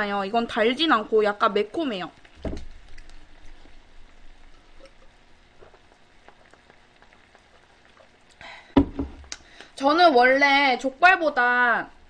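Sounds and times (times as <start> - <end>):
faint crackling hiss: 0.0 - 12.0.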